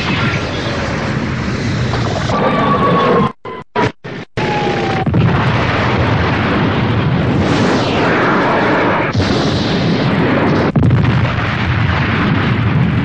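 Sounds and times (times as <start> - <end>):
cartoon explosion rumble: 0.0 - 13.0
explosion blasts: 0.0 - 13.0.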